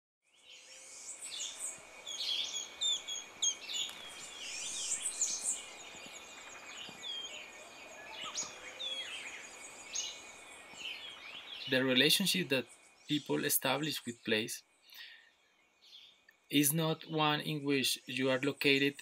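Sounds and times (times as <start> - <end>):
birds chirping and calling: 0.4 - 19.0.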